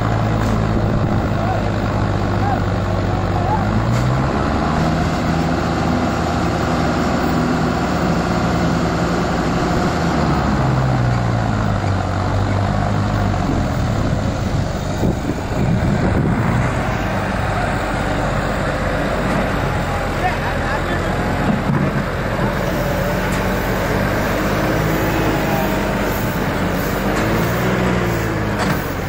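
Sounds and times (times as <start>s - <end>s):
diesel tractor engines under load: 0.0s - 29.0s.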